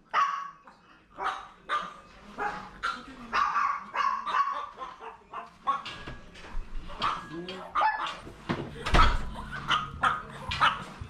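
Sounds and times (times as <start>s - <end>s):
small dogs barking: 0.0s - 6.1s, 6.9s - 11.0s.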